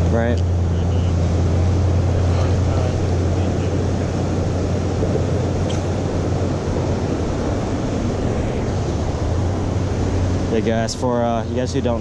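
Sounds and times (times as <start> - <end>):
water rushing over weir: 0.0 - 12.0.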